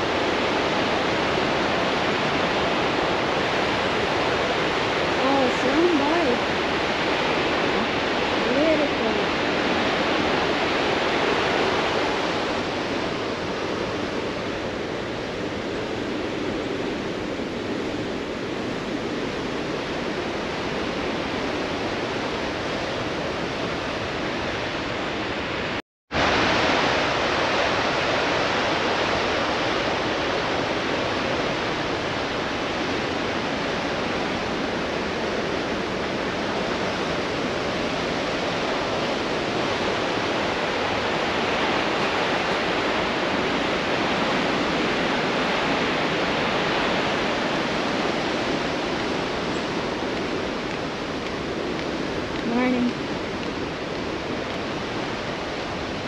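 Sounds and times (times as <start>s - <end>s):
white water roaring: 0.0s - 56.0s.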